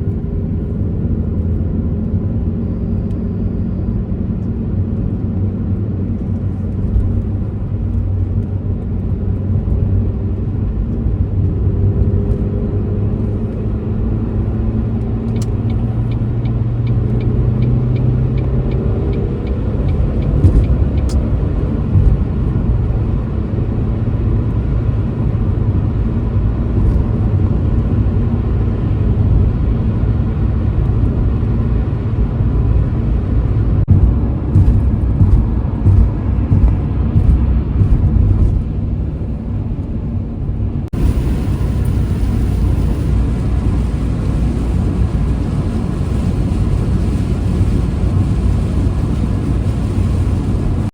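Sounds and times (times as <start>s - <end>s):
car engine: 0.0s - 50.9s
road noise: 0.0s - 50.9s.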